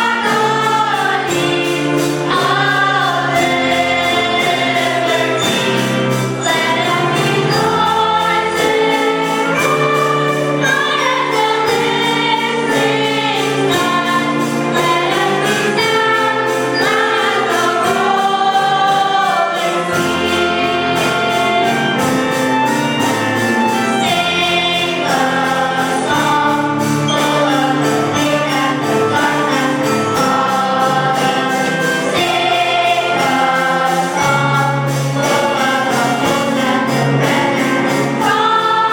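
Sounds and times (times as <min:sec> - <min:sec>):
gospel choir singing with instruments: 0:00.0 - 0:38.9.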